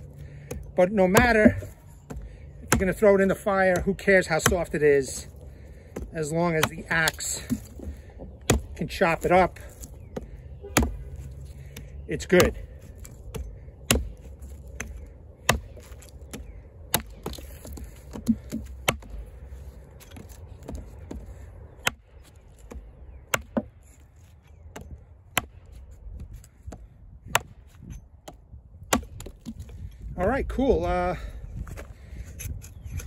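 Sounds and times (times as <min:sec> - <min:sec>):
axe chopping branch: 0:00.2 - 0:29.8.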